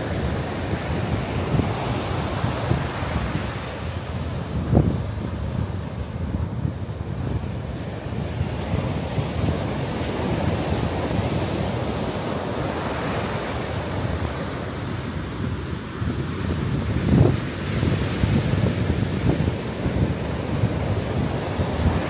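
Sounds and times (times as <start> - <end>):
ocean surf breaking on beach: 0.0 - 22.0
wind rumbling on microphone: 0.0 - 22.0.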